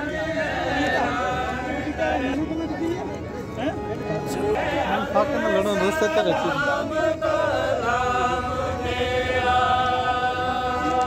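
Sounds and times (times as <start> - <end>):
voices singing a chant: 0.0 - 3.2, 4.2 - 11.0.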